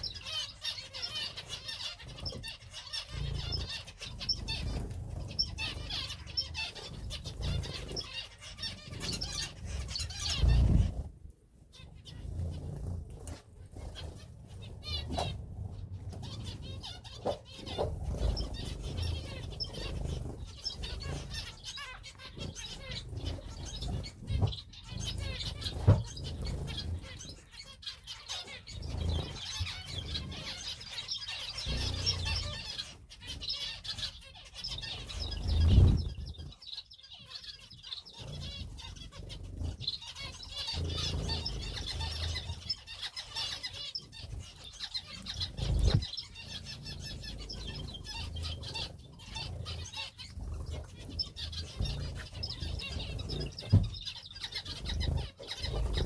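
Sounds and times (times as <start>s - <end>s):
cage birds chirping: 0.0s - 56.0s
wings fluttering: 0.0s - 56.0s.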